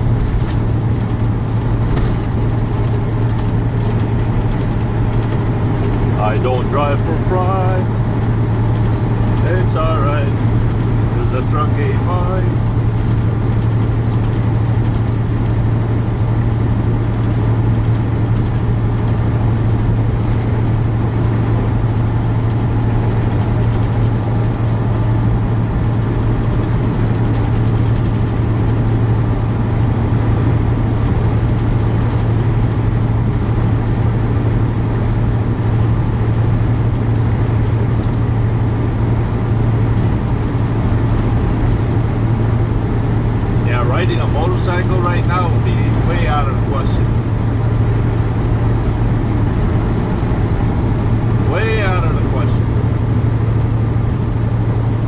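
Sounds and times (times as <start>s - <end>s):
road noise: 0.0s - 55.0s
truck diesel engine droning: 0.0s - 55.0s.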